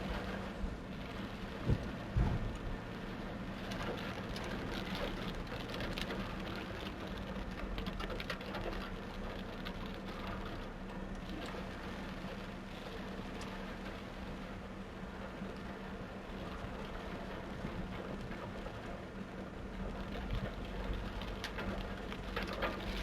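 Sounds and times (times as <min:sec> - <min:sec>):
heavy rain on a car: 0:00.0 - 0:23.0
low engine hum: 0:00.0 - 0:23.0
raindrops ticking: 0:00.1 - 0:14.1, 0:15.2 - 0:23.0.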